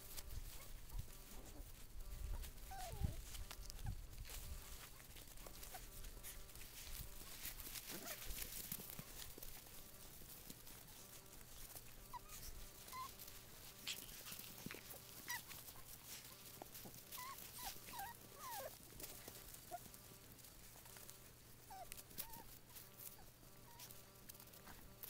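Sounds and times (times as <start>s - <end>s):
faint clicks and rustles: 0.0s - 25.0s
puppies whimpering and squeaking: 0.1s - 20.0s, 20.6s - 25.0s.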